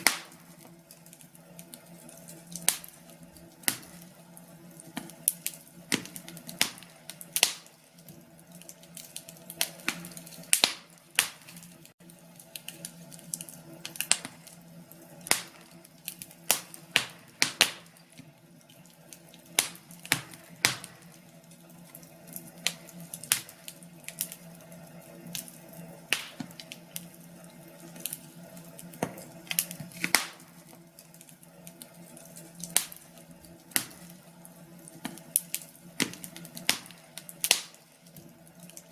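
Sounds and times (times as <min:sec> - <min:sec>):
logs crackling and popping in fire: 0:00.0 - 0:38.9.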